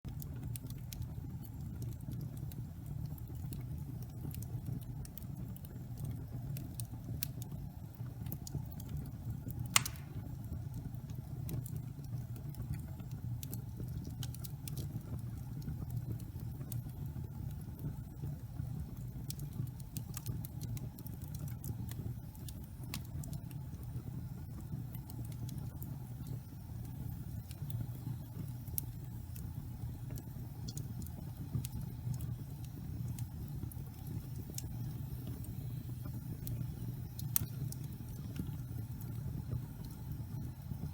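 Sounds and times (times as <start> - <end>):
fire burning in fireplace: 0.1 - 40.9
fire crackles and pop: 0.1 - 40.9.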